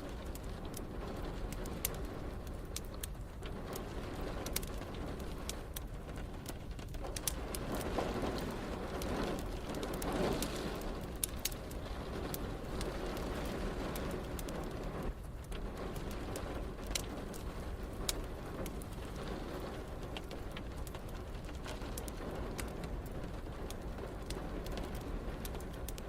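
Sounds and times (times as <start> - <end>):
fireplace crackling: 0.0 - 26.0
rain hissing: 0.0 - 26.0.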